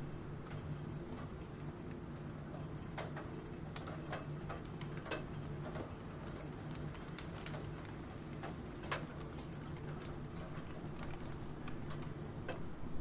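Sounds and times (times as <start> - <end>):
rain: 0.0 - 13.0.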